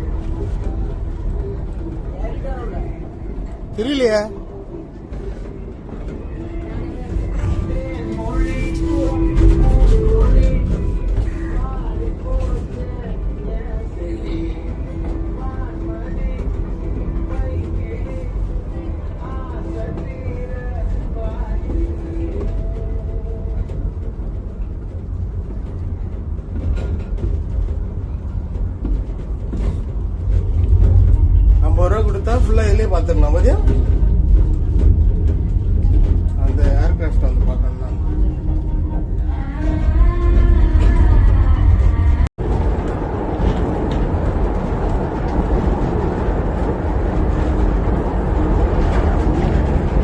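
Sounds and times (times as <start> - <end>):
miniature train rumbling: 0.0 - 50.0.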